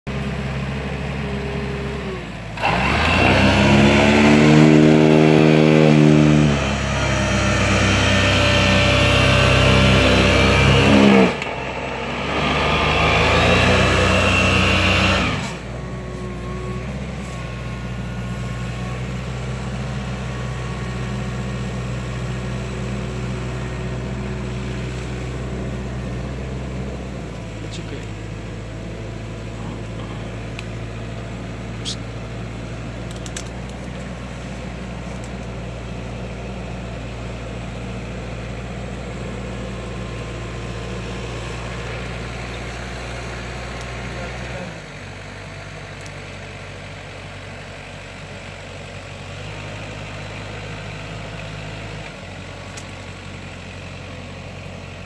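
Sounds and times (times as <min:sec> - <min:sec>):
tractor diesel engine revving: 0:00.1 - 0:55.0.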